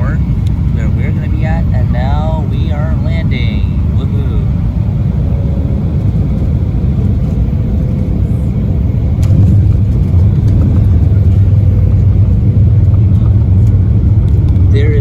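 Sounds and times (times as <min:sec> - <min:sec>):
low rumble of engines and wheels: 0:00.0 - 0:15.0.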